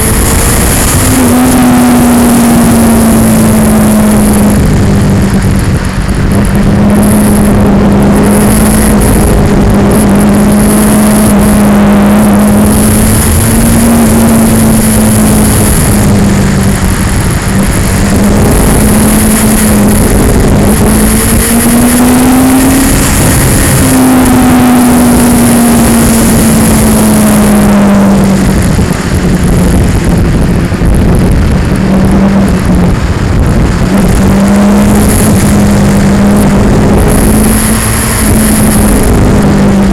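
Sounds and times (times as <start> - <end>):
heavy rushing noise: 0.0 - 39.9
motorcycle engine running: 0.0 - 39.9.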